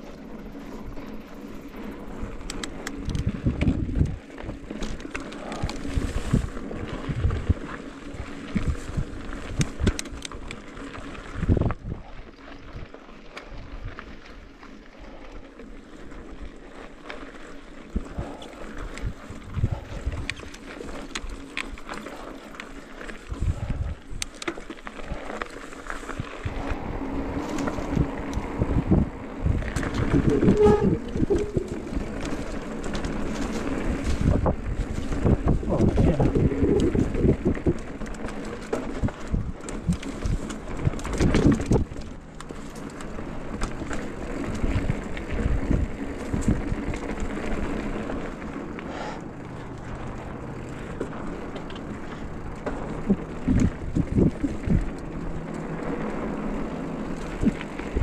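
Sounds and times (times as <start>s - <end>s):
mountain bike rattling: 0.0s - 58.0s
wind buffeting microphone: 1.6s - 10.4s, 11.0s - 12.9s, 17.9s - 22.2s, 23.2s - 24.3s, 26.0s - 42.3s, 43.1s - 58.0s.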